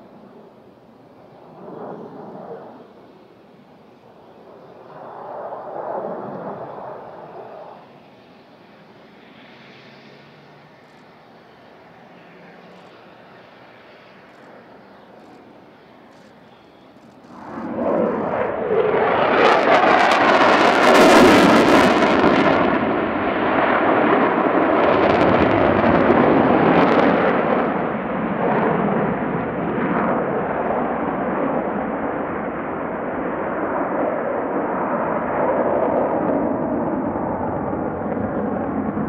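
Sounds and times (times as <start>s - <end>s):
jet engine roar overhead: 0.0s - 39.0s.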